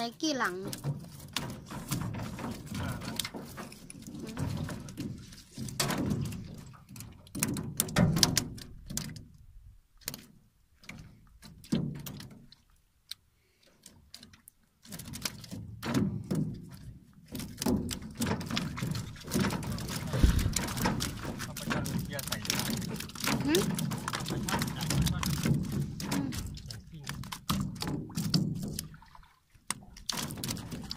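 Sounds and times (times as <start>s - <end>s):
fish trap knocking and clattering: 0.6s - 9.3s, 10.0s - 12.5s, 14.3s - 29.1s, 29.7s - 30.9s.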